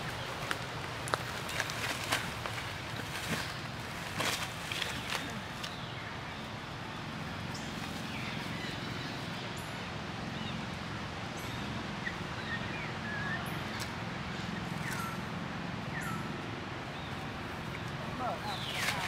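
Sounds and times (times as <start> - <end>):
steady hiss and low hum: 0.0 - 19.0.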